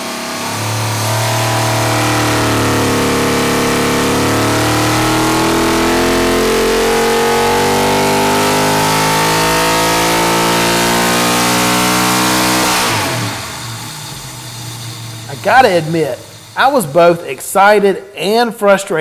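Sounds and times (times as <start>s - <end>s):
engine revving at full throttle: 0.0s - 17.3s.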